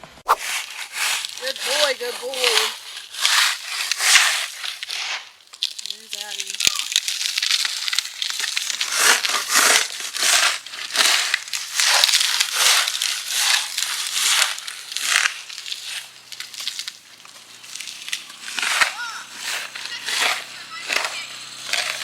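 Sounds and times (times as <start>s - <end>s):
snow crunching: 0.0s - 22.0s.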